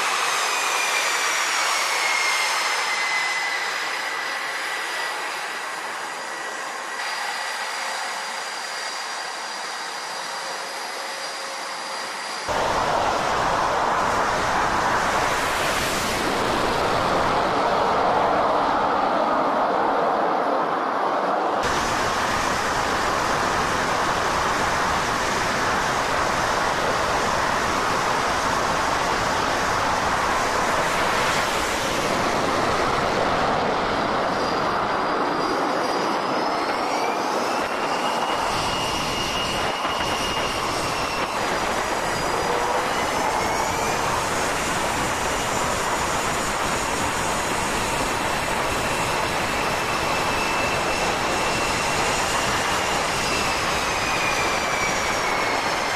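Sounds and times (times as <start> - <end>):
high turbine whine: 0.0 - 55.9
jet engines roaring: 0.0 - 55.9.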